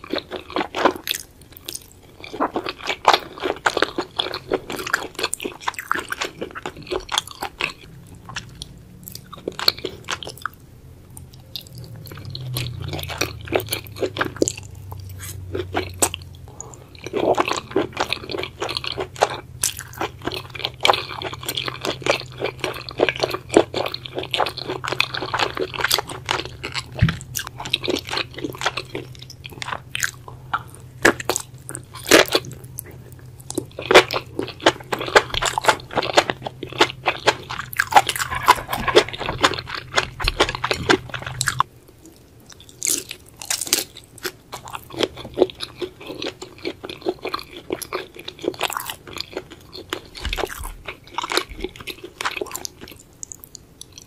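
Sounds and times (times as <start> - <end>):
wet chewing and smacks: 0.0 - 54.0.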